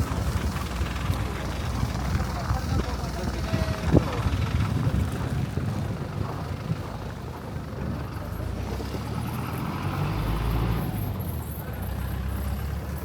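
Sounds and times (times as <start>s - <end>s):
passing traffic engine rumble: 0.0s - 13.0s.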